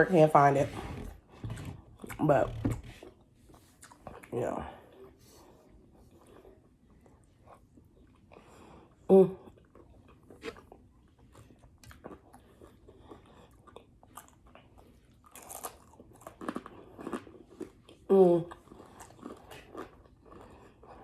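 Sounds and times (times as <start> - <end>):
chewing and crunching food: 0.2 - 21.0.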